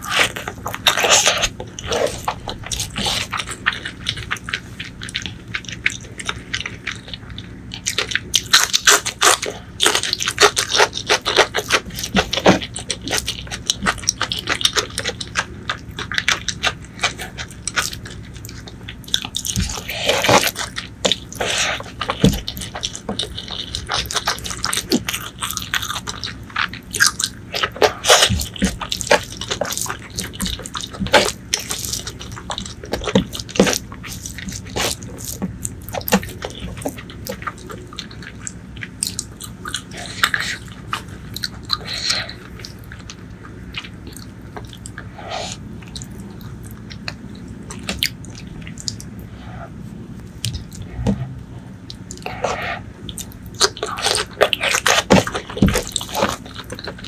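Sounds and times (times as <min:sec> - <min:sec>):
fingers squishing food: 0:00.0 - 0:57.0
wet chewing and smacking: 0:00.0 - 0:57.0.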